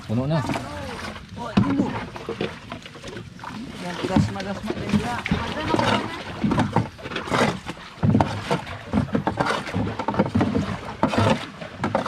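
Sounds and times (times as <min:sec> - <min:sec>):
plastic buckets knocking on hull: 0:00.2 - 0:03.2, 0:03.8 - 0:12.0.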